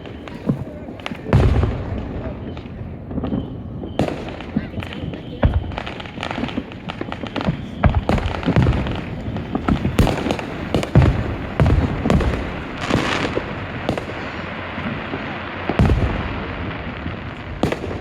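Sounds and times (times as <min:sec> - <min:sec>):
fireworks booms and pops: 0:00.0 - 0:18.0
fireworks crackling: 0:00.0 - 0:18.0.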